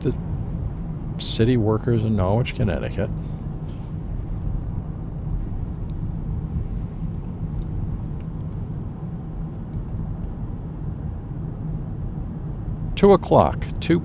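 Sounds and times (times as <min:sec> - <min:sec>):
car engine and tyre noise: 0:00.0 - 0:14.0.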